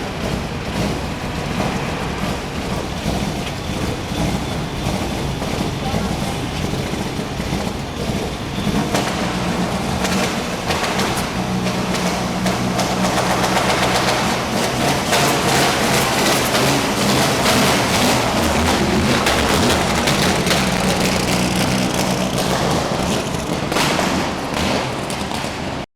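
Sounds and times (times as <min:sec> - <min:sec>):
car engine idling: 0:00.0 - 0:25.2
engine cracks and pops: 0:00.0 - 0:25.9.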